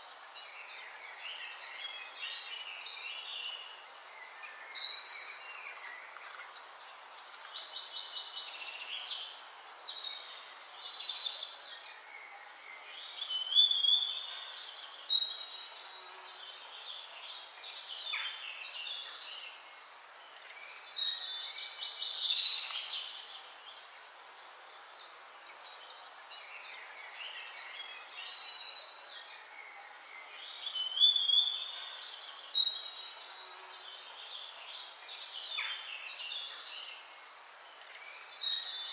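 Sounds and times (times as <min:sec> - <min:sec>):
songbirds singing and chirping: 0:00.0 - 0:38.9
steady hiss: 0:00.0 - 0:38.9.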